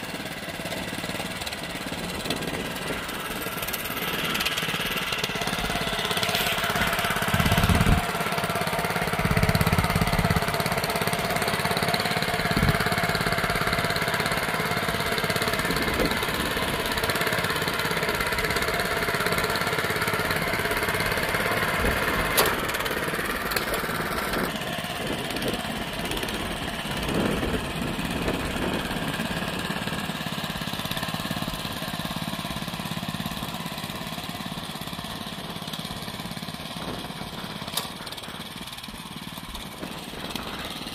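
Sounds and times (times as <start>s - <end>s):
tiller engine running: 0.0s - 40.9s.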